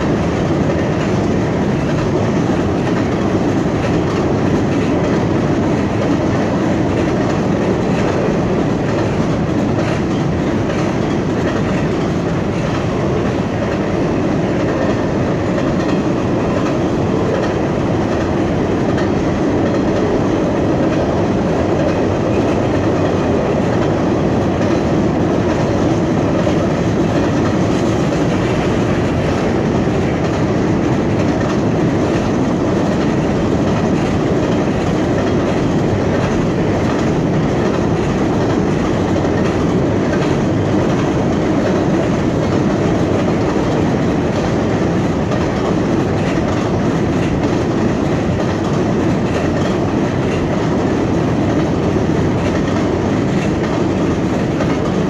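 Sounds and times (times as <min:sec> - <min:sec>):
freight train rumbling over bridge: 0:00.0 - 0:55.0.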